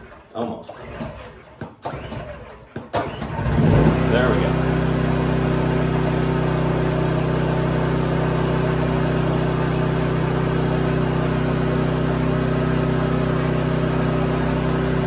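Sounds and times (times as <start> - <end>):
portable generator engine running: 0.0 - 15.0.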